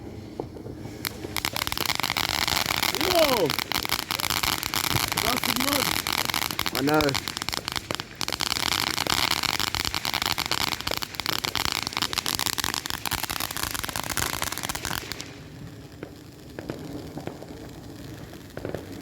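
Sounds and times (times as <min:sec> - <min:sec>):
firework crackling and hissing: 0:00.0 - 0:19.0
scattered pops: 0:00.4 - 0:17.5.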